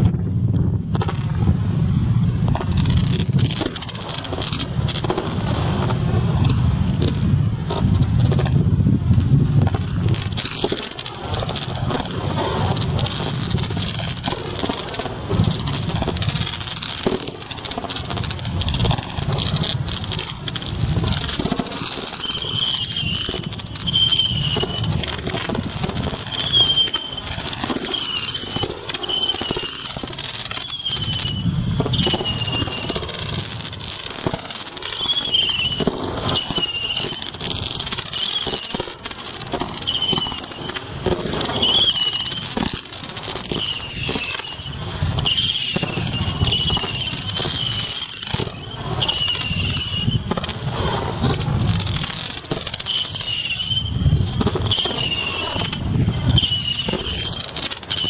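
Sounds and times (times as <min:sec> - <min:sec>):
wind rumble on microphone: 0:00.0 - 0:38.7, 0:39.4 - 0:57.5
firework pops and crackles: 0:00.0 - 0:58.0
firework whistles: 0:02.5 - 0:58.0.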